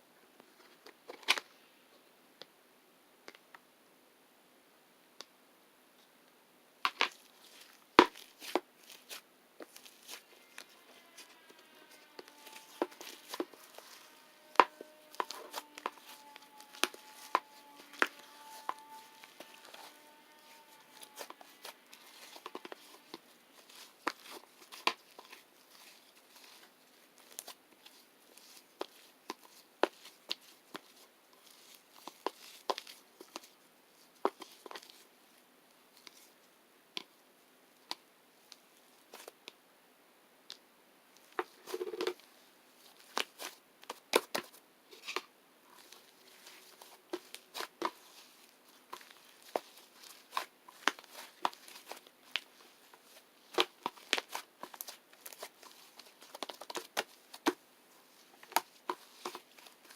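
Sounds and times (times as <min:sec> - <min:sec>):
clicks and crinkles of handling: 0:00.4 - 0:01.6, 0:06.9 - 0:36.4, 0:37.8 - 0:39.6, 0:40.5 - 0:59.9.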